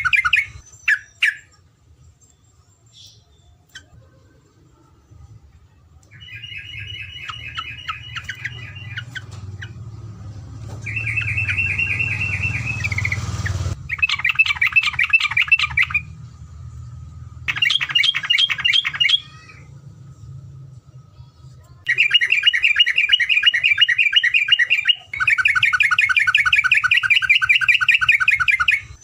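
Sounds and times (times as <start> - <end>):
bird singing rapid trills: 0.0 - 4.0, 6.1 - 19.7, 21.8 - 29.0.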